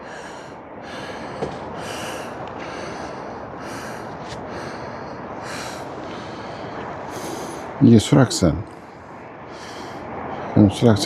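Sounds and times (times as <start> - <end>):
heavy quick breathing: 0.0 - 7.8, 8.8 - 10.6.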